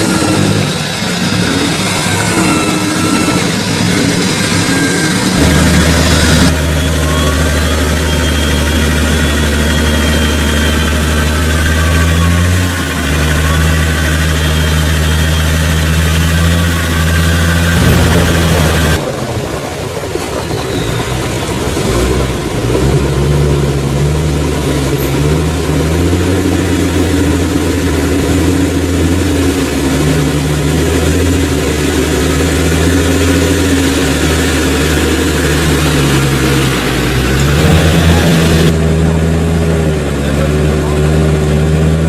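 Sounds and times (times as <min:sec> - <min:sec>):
off-road vehicle engine revving: 0:00.0 - 0:19.7, 0:20.5 - 0:42.0.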